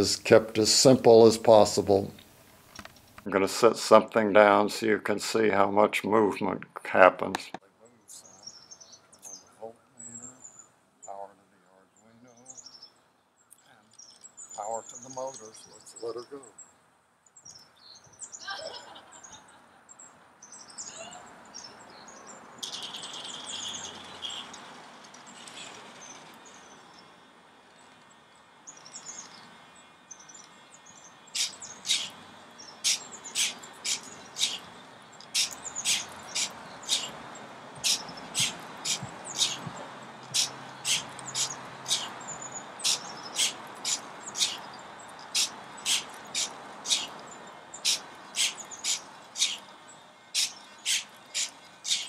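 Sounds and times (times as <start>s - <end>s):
small birds chirping: 7.6s - 52.0s.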